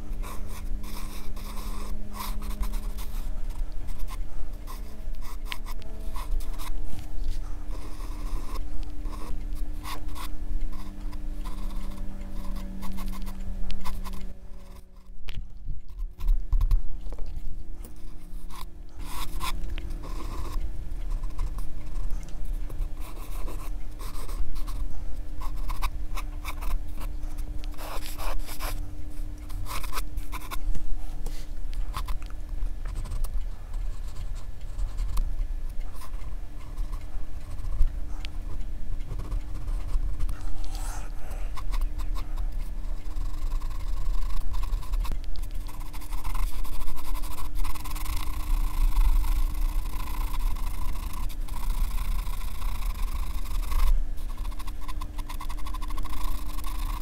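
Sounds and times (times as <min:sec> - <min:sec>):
pencil scratching on paper: 0:00.0 - 0:15.2, 0:17.9 - 0:28.8, 0:29.4 - 0:30.6, 0:32.9 - 0:35.2, 0:35.9 - 0:57.0
steady low hum: 0:00.0 - 0:57.0.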